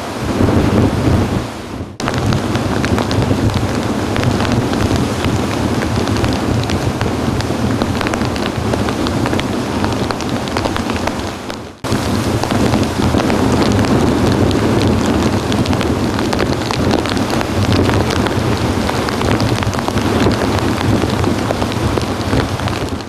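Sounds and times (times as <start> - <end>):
wind-driven surf rushing: 0.0 - 23.0
rain drops ticking: 1.9 - 23.0.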